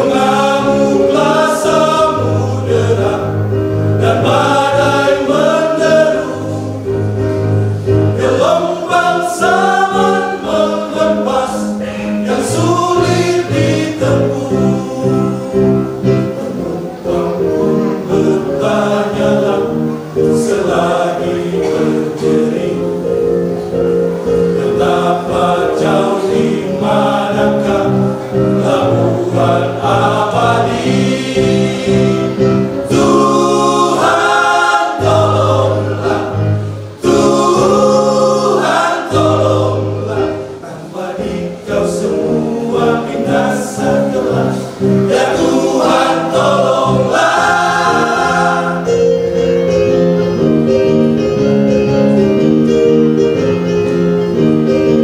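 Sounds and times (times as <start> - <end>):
choir singing gospel: 0.0 - 51.2.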